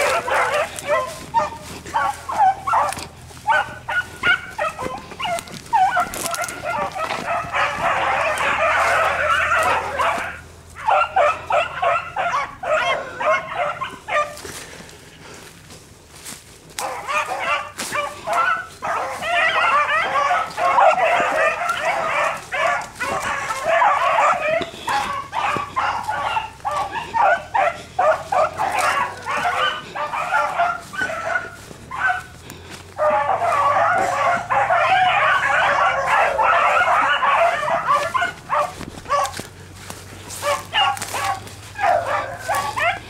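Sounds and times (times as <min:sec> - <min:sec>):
hounds baying: 0:00.0 - 0:43.0.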